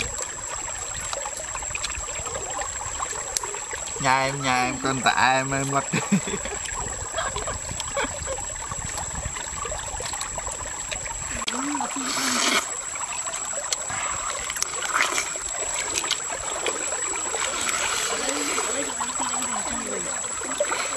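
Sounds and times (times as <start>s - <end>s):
stream water trickling: 0.0s - 20.9s
water splash: 0.0s - 20.9s.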